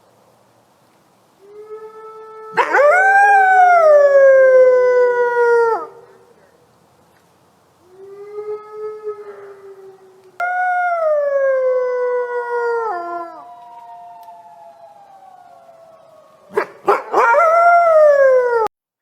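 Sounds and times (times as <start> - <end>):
wolves howling: 1.5 - 6.2, 7.9 - 18.7.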